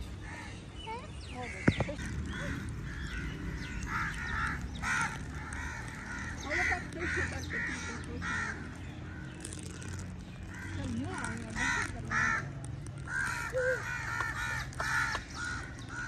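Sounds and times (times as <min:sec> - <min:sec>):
crows cawing: 0:00.1 - 0:00.6, 0:01.4 - 0:16.0.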